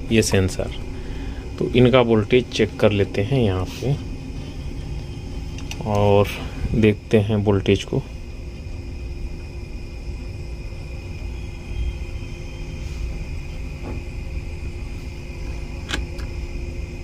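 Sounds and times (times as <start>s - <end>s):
faint steady tones: 0.0s - 17.0s
low background rumble and hum: 0.0s - 17.0s.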